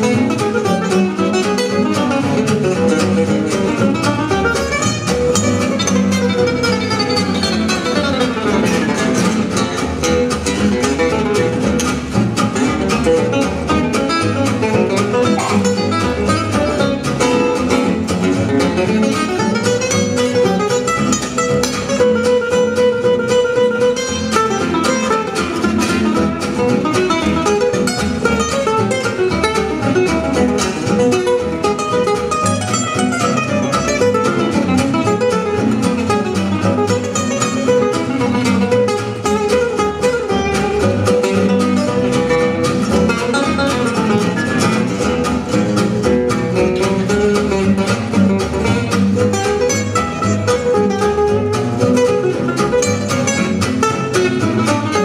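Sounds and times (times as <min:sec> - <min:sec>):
lead guitar fast runs: 0:00.0 - 0:55.0
strummed rhythm guitar: 0:00.0 - 0:55.0
walking double bass: 0:00.0 - 0:55.0.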